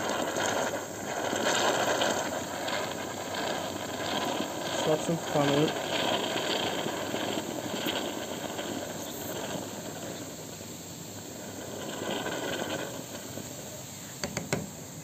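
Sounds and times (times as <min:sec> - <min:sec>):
cleaning fluid fizzing and bubbling: 0:00.0 - 0:15.0.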